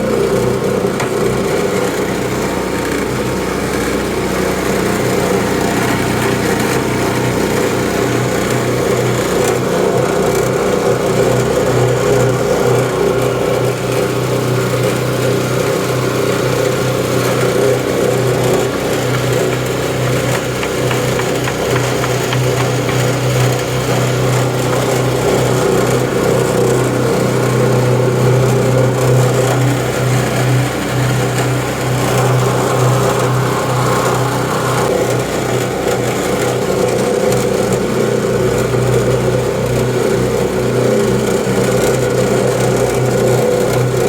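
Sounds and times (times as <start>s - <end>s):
mixing machine humming: 0.0s - 44.0s.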